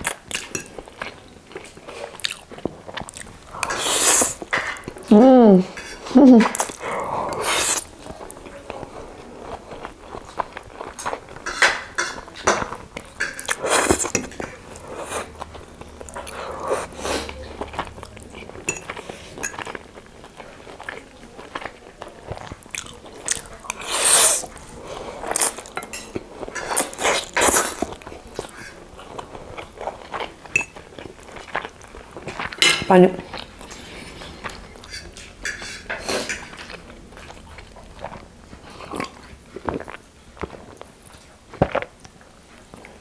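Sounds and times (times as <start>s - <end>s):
wet chewing and slurping: 0.0s - 5.0s, 12.6s - 32.6s, 33.3s - 43.0s.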